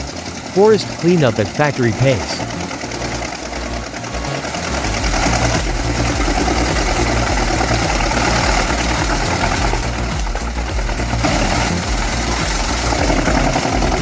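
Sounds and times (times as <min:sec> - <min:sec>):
wood chipper running: 0:02.4 - 0:14.0.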